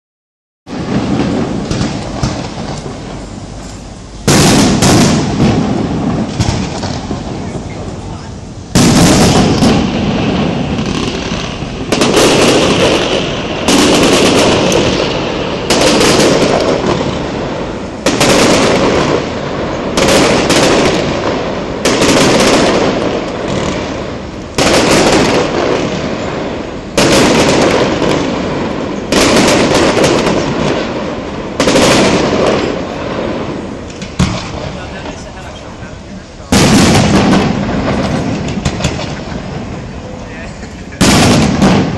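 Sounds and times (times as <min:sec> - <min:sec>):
firework shells bursting: 0:00.7 - 0:41.9.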